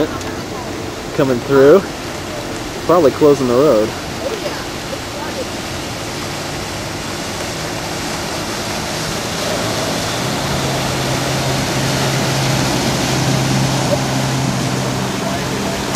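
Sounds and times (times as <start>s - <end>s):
low engine hum: 0.0s - 15.9s
wheels throwing up water spray: 0.0s - 15.9s.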